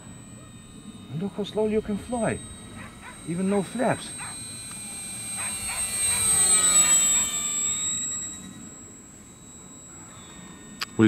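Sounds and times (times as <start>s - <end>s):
model plane motor whining: 0.0s - 11.0s.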